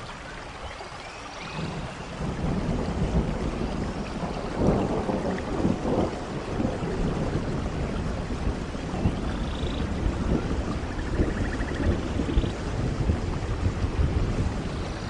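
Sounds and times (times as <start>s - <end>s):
steady rain falling: 0.0s - 15.0s
low rumble of thunder: 1.4s - 15.0s.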